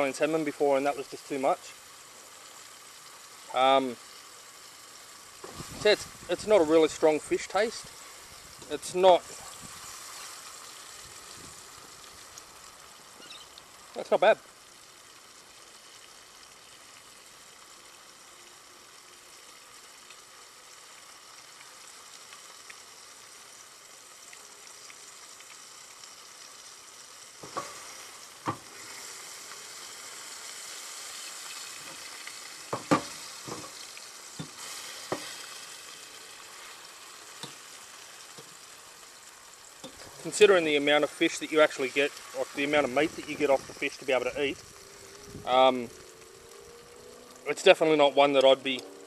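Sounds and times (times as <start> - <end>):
fish sizzling in oil: 0.0 - 49.0.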